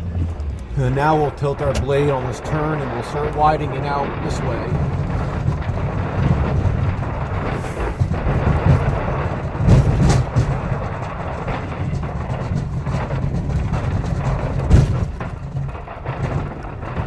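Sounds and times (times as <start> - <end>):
diesel truck engine under load: 0.0 - 17.0
plow blade knocking and scraping: 0.0 - 17.0.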